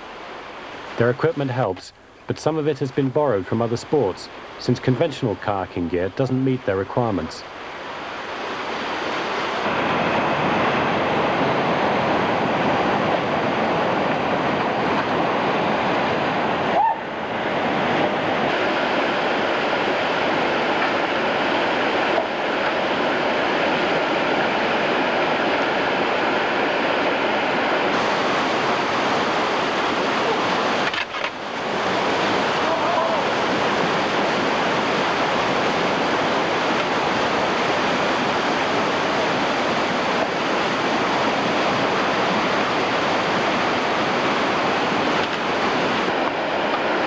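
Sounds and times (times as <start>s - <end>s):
rushing river rapids: 0.0s - 47.0s.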